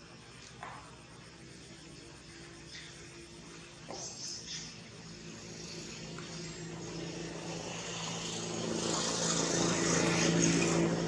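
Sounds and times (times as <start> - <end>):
passing vehicle engine hum: 0.0 - 11.0
road noise: 0.0 - 11.0.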